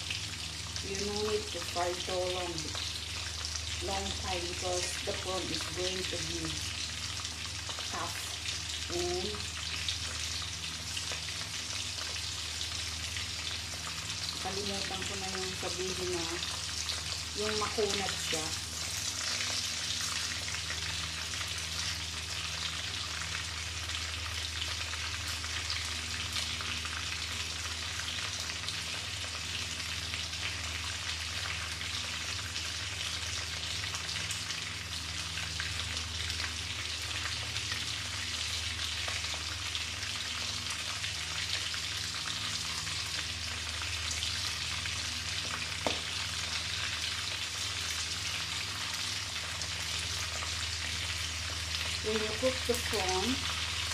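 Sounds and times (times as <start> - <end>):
low steady hum: 0.0 - 53.9
oil sizzling and crackling: 0.0 - 53.9.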